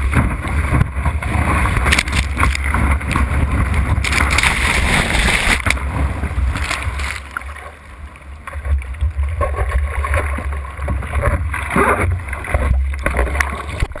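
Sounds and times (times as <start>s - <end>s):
whitewater rushing over surfboard: 0.0s - 14.0s.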